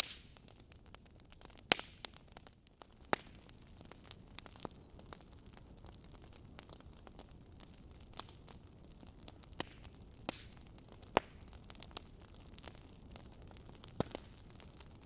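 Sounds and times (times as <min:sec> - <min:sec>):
fire crackles and pops: 0:00.0 - 0:15.0
fire rushing: 0:00.0 - 0:15.0.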